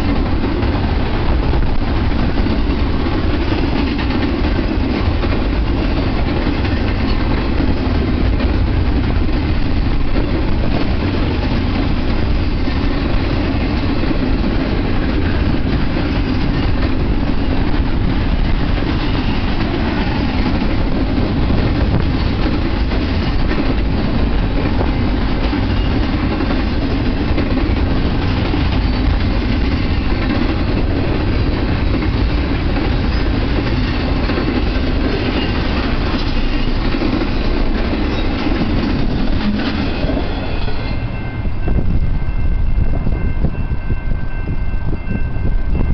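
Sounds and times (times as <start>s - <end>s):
freight train wheels rumbling on rail: 0.0s - 45.9s.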